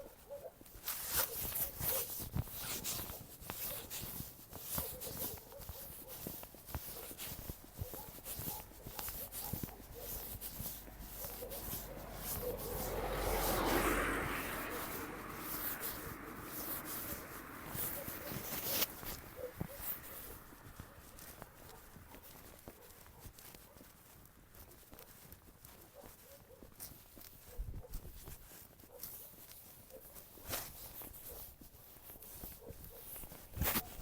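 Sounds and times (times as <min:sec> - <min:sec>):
footsteps on a path: 0:00.0 - 0:34.0.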